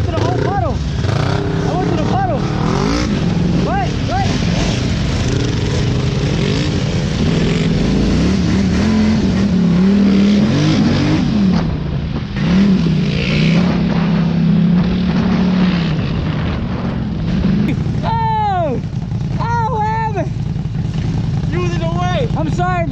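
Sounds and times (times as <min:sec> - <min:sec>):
off-road vehicle engine revving: 0:00.0 - 0:22.9.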